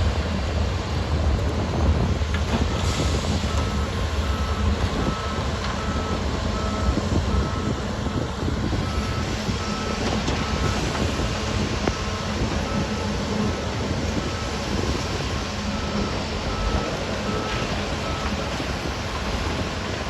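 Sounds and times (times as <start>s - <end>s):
diesel engine rumble: 0.0s - 20.0s
reversing alarm beeping: 2.6s - 20.0s.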